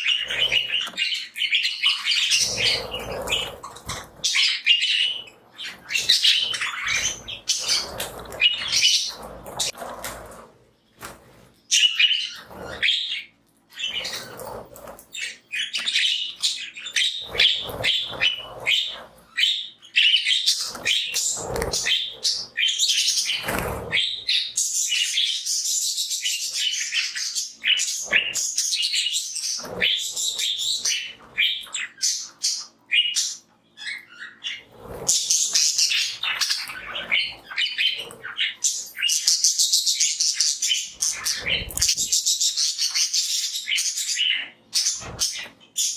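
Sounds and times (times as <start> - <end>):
budgies chirping and warbling: 0.0 - 45.9.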